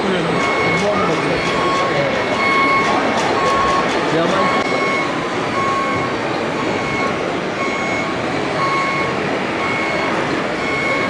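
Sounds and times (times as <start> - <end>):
reversing alarm beeping: 0.0 - 11.0.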